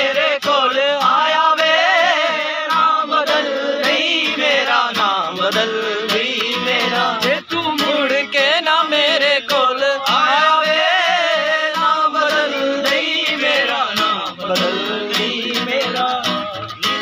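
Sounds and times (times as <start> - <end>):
acoustic guitar: 0.0 - 17.0
man singing: 0.0 - 17.0.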